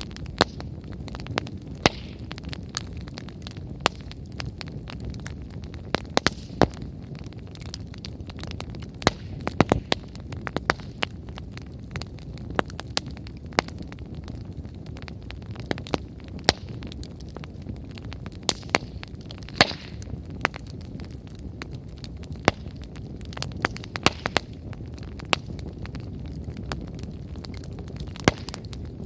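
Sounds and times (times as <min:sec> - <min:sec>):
low rush of flames: 0:00.0 - 0:29.0
wood fire crackling and popping: 0:00.0 - 0:29.0.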